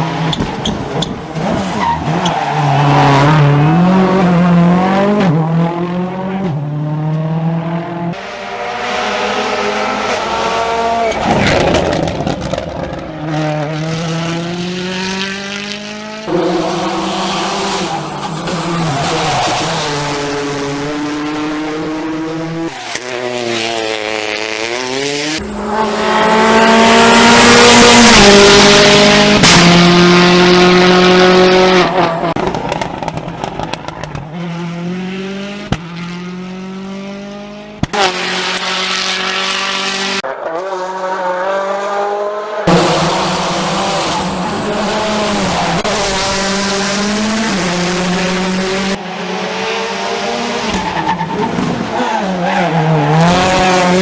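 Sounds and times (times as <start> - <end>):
rally cars revving past: 0.0 - 54.0.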